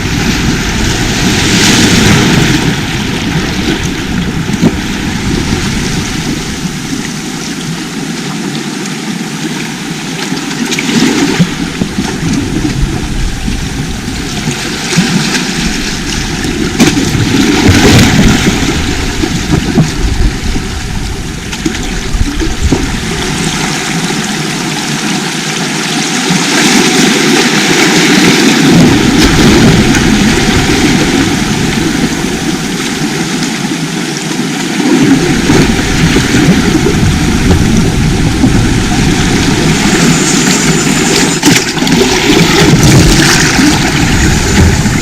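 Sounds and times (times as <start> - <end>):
sea surf washing on shore: 0.0 - 45.0.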